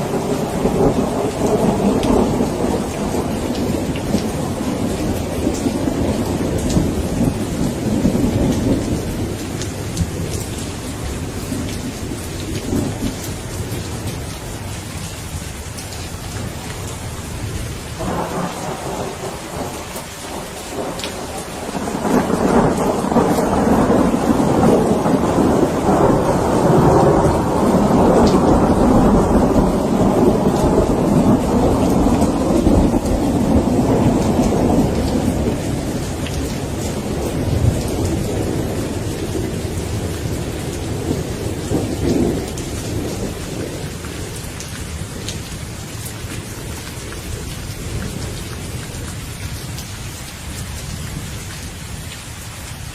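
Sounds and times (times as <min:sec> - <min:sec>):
rolling thunder: 0:00.0 - 0:14.7, 0:16.4 - 0:45.8
steady rain: 0:00.0 - 0:52.9.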